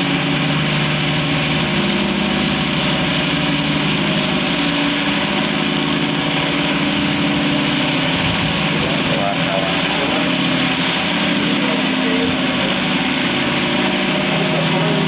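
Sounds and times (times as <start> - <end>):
cotton candy machine humming: 0.0 - 15.0.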